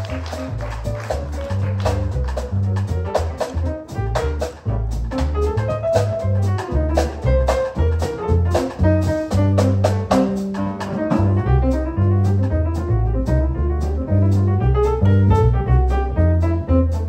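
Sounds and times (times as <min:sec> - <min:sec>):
double bass line: 0:00.0 - 0:17.0
piano chords: 0:00.0 - 0:17.0.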